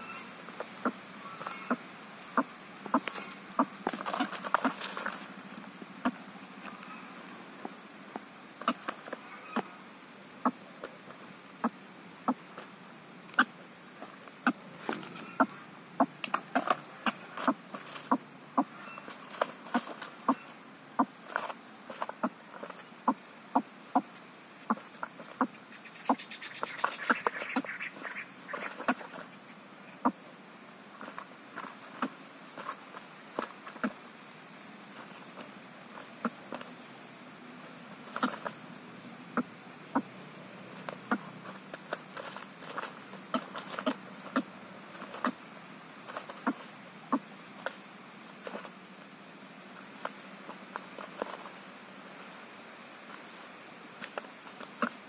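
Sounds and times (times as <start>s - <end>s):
faint steady hiss: 0.0s - 55.0s
faint steady hum: 0.0s - 55.0s.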